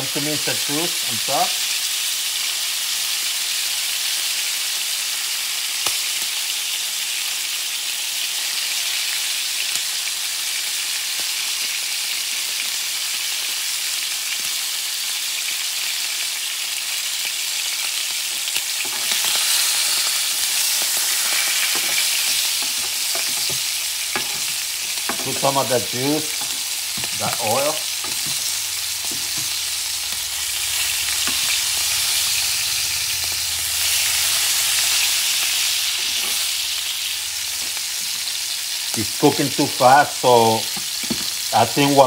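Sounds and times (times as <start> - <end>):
meat sizzling in a frying pan: 0.0 - 42.0.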